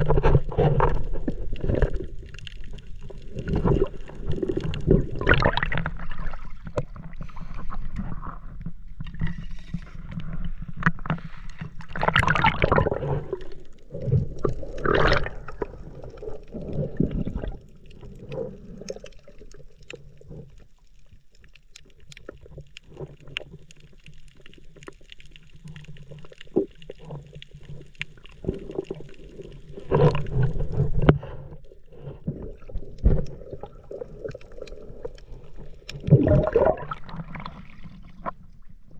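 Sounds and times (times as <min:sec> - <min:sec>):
muffled water sloshing and gurgling: 0:00.0 - 0:38.9.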